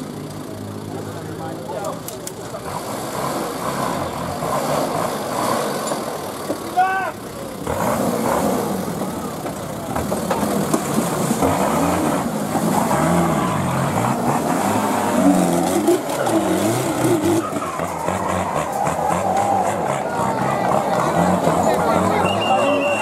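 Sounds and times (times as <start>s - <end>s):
off-road engine revving hard: 2.5s - 23.0s.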